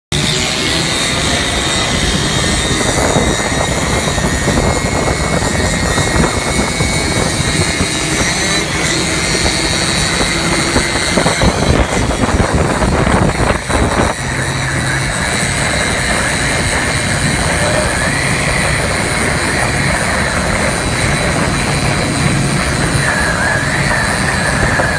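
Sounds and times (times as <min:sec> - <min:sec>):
motorcycle rickshaw engine drone: 0:00.1 - 0:24.9.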